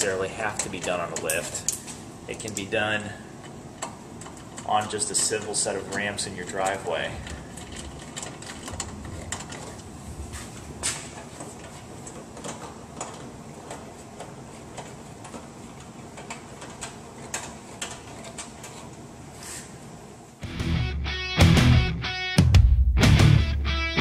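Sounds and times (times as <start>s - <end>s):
low room noise: 0.0s - 22.1s.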